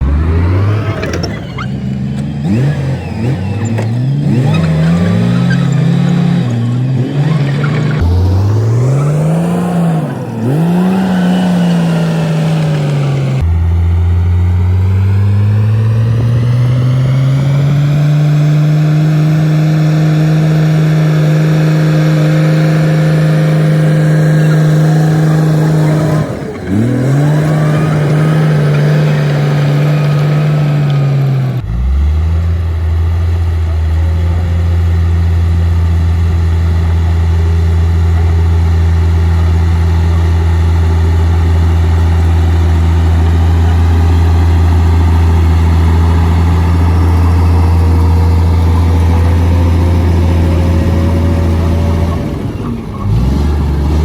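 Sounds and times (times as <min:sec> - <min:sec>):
bulldozer diesel engine revving: 0:00.0 - 0:54.0.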